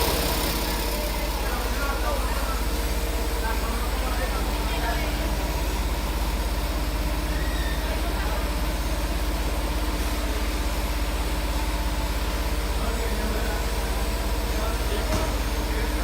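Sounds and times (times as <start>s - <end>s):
quilting machine running: 0.0s - 16.0s.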